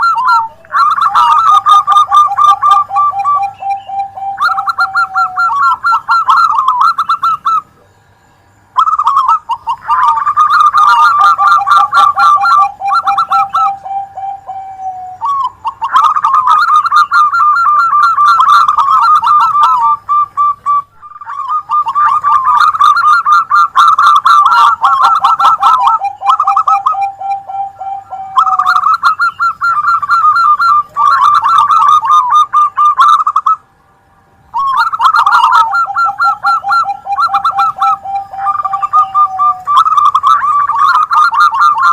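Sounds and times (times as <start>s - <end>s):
doves cooing trills: 0.0s - 33.8s, 34.5s - 41.9s.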